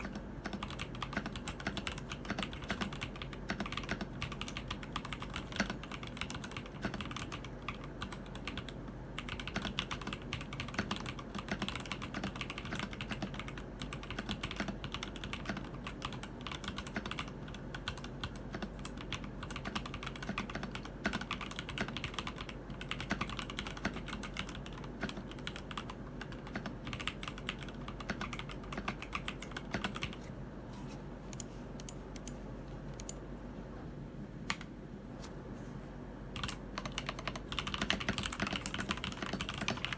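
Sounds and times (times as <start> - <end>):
mechanical keyboard typing: 0.0 - 30.3, 36.4 - 39.9.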